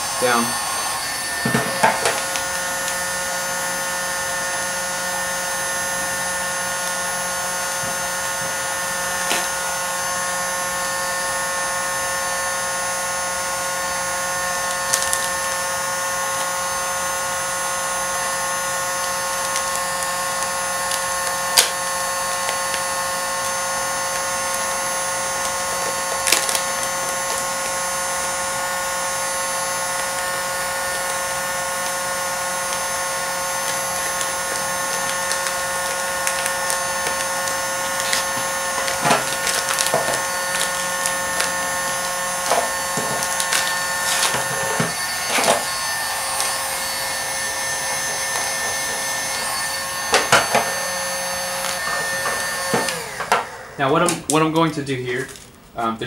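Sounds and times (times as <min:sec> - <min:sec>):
heat gun fan whine: 0:00.0 - 0:56.0.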